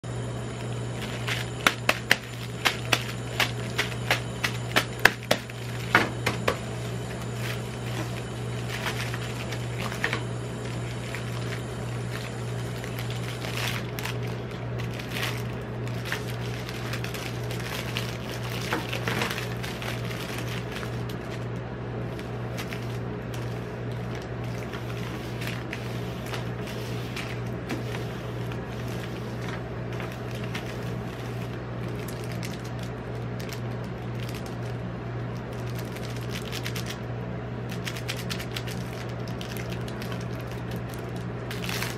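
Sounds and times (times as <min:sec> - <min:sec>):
steady low hum: 0:00.0 - 0:41.9
plastic wrapper crinkling: 0:00.6 - 0:41.9.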